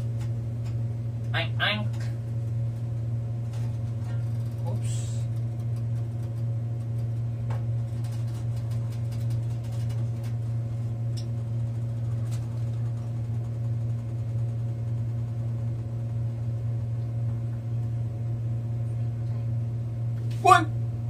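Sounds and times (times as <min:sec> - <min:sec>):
appliance motor hum: 0:00.0 - 0:21.0.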